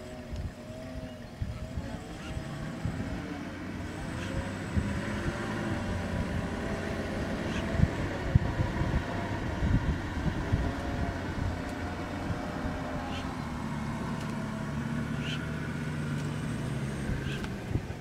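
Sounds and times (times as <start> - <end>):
vehicle engine idling: 0.0 - 18.0
wind buffeting microphone: 0.0 - 18.0.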